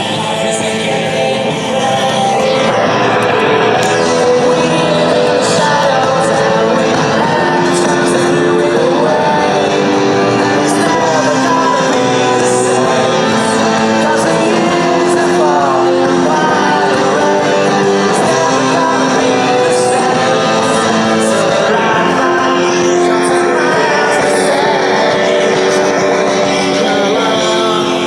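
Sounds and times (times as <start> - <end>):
rock song with singing and guitars: 0.0 - 28.0.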